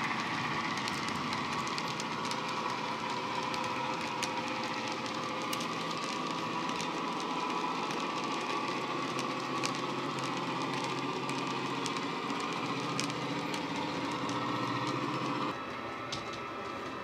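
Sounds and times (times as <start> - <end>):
diesel engine drone: 0.0 - 17.0
train clicks on track: 0.0 - 17.0.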